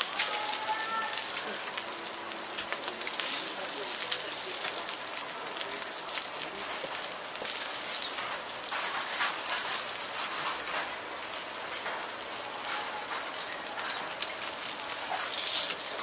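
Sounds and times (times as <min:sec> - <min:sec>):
fish sizzling on a grill: 0:00.0 - 0:16.0.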